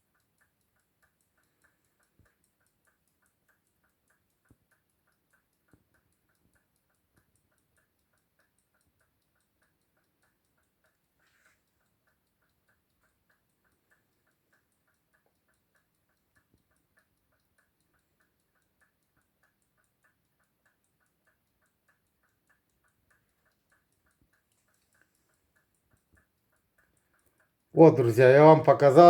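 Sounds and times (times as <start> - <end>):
alarm clocks ticking faintly: 0.0 - 29.0.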